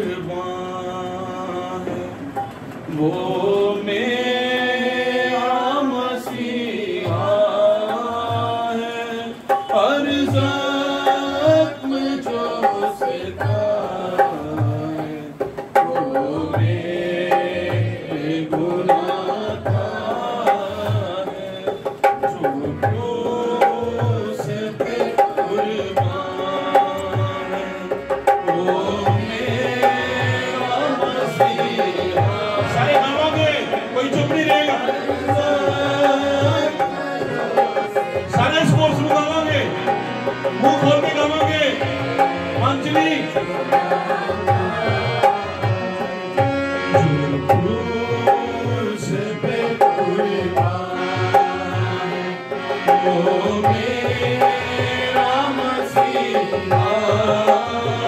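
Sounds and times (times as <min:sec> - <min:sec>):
harmonium: 0:00.0 - 0:58.0
man singing into a microphone: 0:00.0 - 0:58.0.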